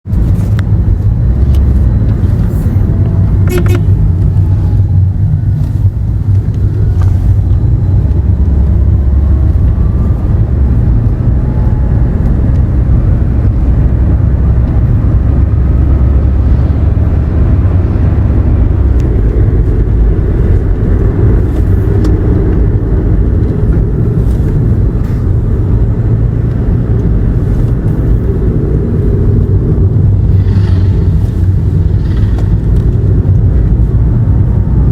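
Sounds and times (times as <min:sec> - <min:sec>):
car driving rumble: 0:00.0 - 0:34.9.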